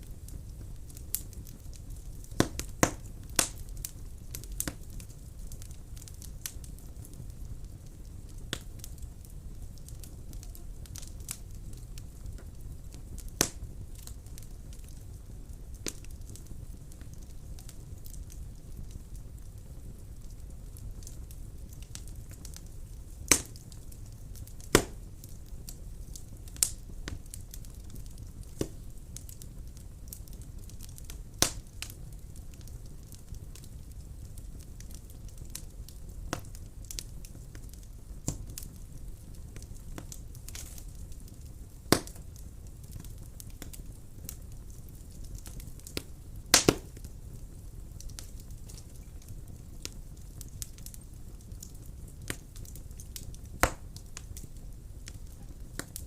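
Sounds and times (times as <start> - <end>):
fire flames rumbling: 0.0 - 56.0
wood fire crackling and popping: 0.0 - 56.0.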